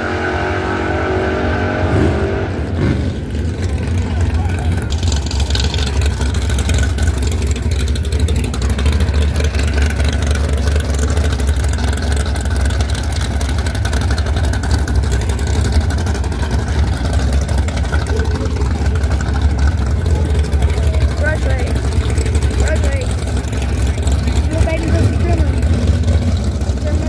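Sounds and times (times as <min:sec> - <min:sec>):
engine idling with low rumble: 0:02.5 - 0:27.0.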